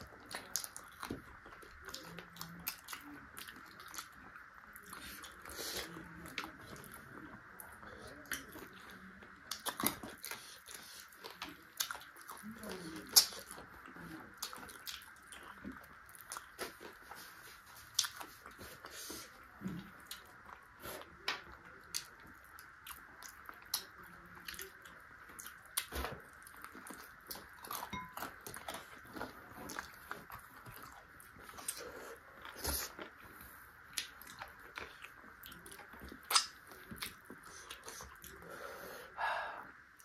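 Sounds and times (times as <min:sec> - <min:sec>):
person chewing crunchy food: 0:00.0 - 0:38.8.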